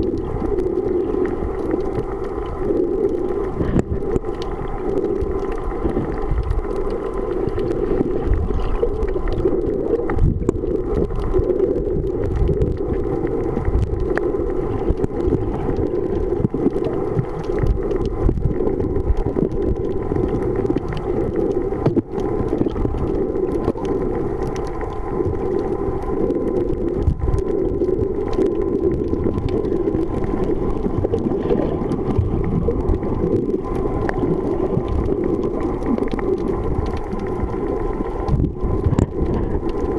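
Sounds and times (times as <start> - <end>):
underwater moving water rumble: 0.0 - 39.9.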